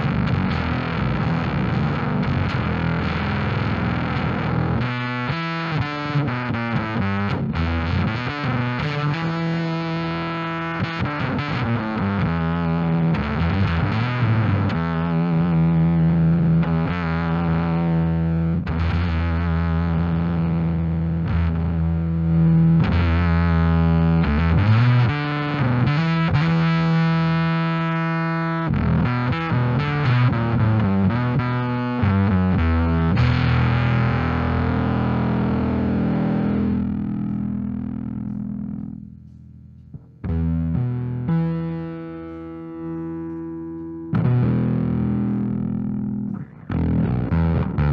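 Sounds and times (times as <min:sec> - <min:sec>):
distorted fuzz bass notes: 0:00.0 - 0:47.9.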